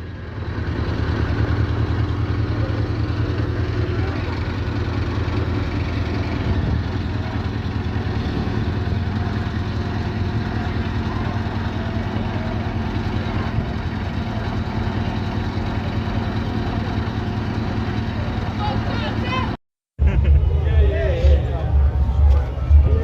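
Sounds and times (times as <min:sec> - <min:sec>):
diesel engine low hum: 0:00.0 - 0:23.0.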